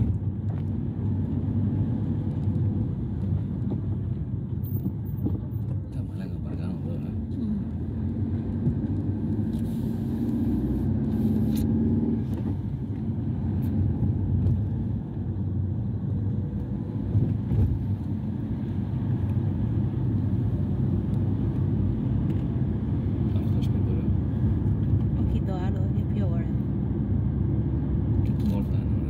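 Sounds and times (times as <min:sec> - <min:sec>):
car engine rumble: 0:00.0 - 0:29.0
road noise inside car: 0:00.0 - 0:29.0.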